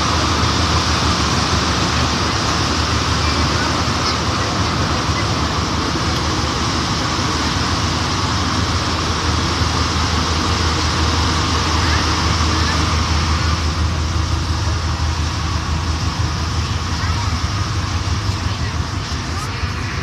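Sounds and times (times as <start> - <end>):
metro train rumbling in tunnel: 0.0 - 20.0.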